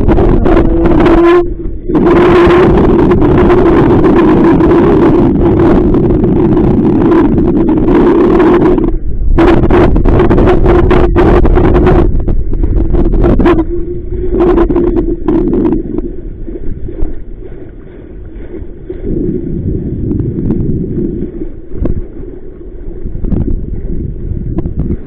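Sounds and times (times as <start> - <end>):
steady low hum: 0.0 - 25.0
water splashing against boat: 0.0 - 25.0
wind buffeting microphone: 0.0 - 25.0.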